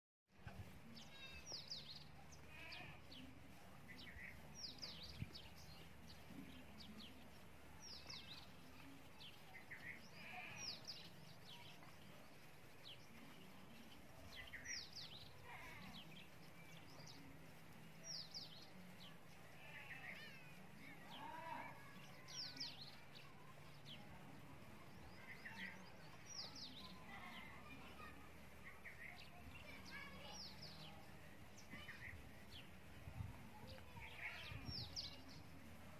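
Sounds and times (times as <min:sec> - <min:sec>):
faint birdsong chirps: 0:00.3 - 0:35.9.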